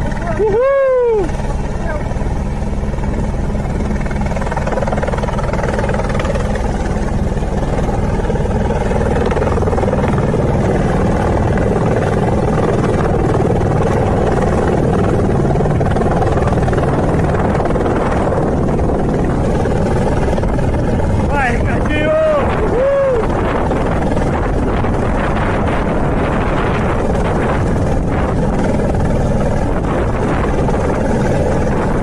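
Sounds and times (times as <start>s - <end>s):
helicopter rotor and engine: 0.0s - 32.0s.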